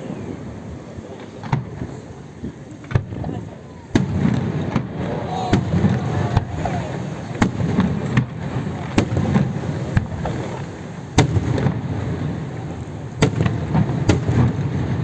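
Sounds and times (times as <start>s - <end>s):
fireworks bangs: 0.0s - 15.0s
low rumble and crackle: 0.0s - 15.0s.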